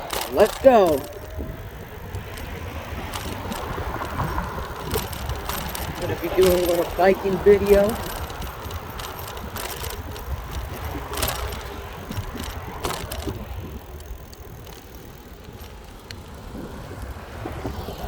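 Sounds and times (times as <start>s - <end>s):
bicycle rattling: 0.0s - 18.0s
wind and road rumble: 0.0s - 18.0s.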